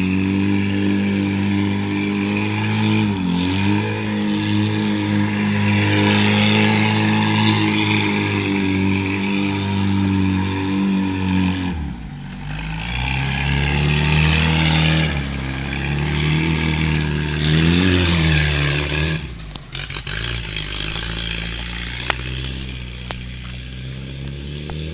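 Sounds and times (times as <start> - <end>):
buggy engine revving: 0.0 - 24.9.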